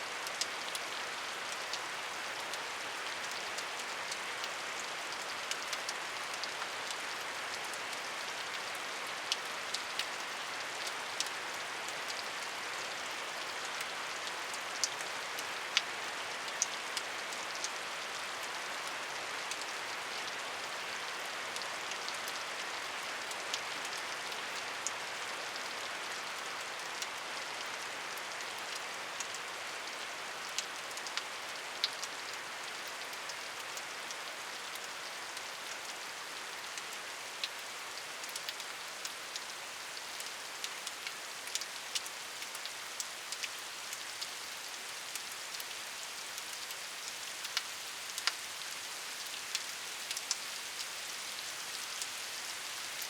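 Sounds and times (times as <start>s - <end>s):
raindrops dripping on surface: 0.0s - 53.0s
steady rain hiss: 0.0s - 53.0s.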